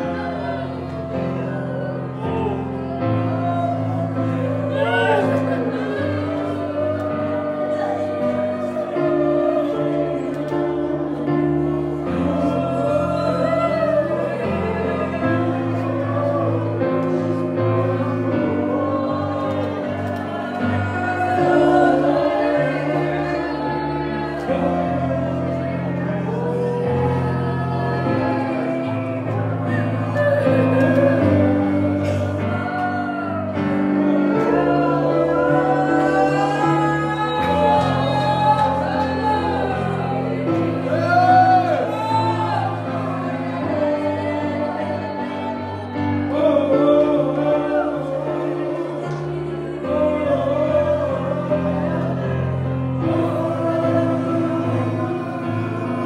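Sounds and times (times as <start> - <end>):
congregation singing: 0.0 - 56.0.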